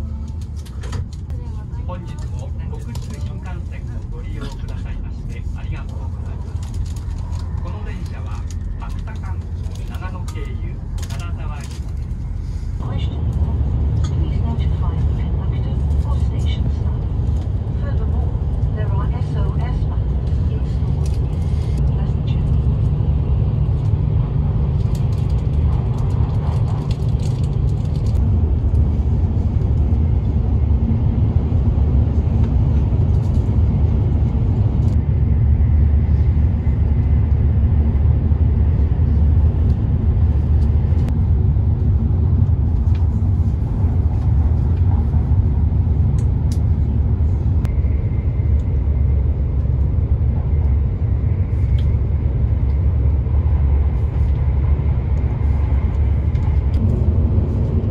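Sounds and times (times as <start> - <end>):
train rumbling on tracks: 0.0 - 57.9.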